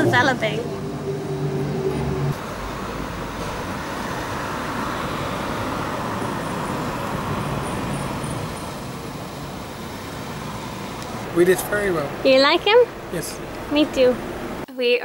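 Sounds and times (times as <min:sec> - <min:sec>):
passing cars rushing: 0:00.0 - 0:14.6.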